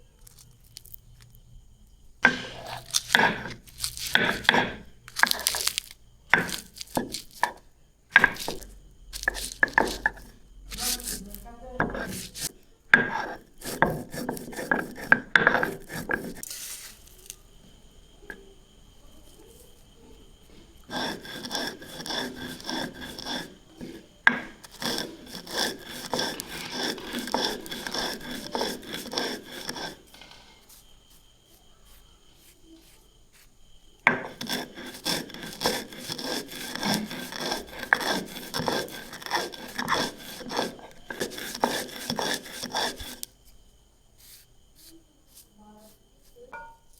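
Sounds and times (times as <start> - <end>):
scraping and rubbing strokes: 2.2 - 17.4, 19.1 - 46.6.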